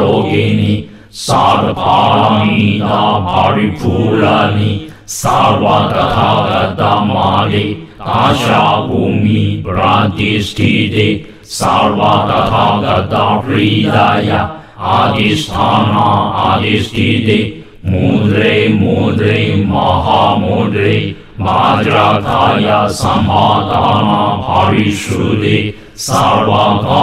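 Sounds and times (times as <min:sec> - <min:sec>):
person chanting a mantra: 0:00.0 - 0:27.0.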